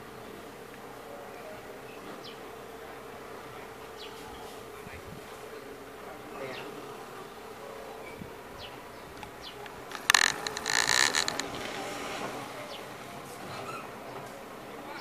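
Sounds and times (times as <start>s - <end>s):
distant diesel engine drone: 0.0s - 14.9s.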